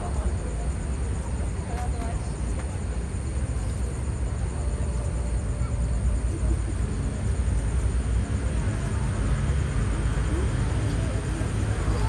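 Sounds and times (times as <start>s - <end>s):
indistinct crowd voices: 0.0s - 12.0s
steady low rumble: 0.0s - 12.0s.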